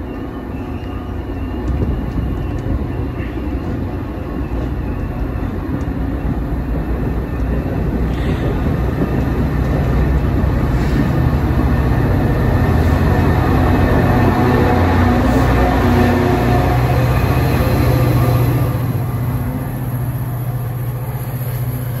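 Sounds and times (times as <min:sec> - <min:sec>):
train wheels on track: 0:00.0 - 0:22.0.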